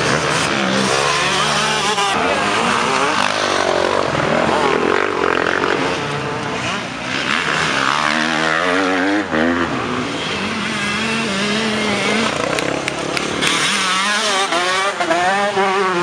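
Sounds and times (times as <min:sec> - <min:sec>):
motocross bike engine revving: 0:00.0 - 0:16.0
steady engine drone: 0:00.0 - 0:16.0.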